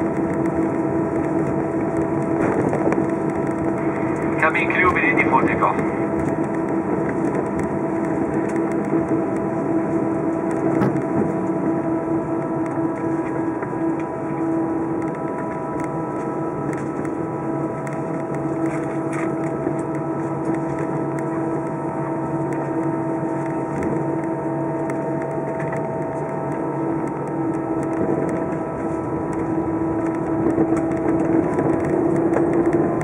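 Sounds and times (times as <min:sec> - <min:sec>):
jet engines droning and whining: 0:00.0 - 0:33.0.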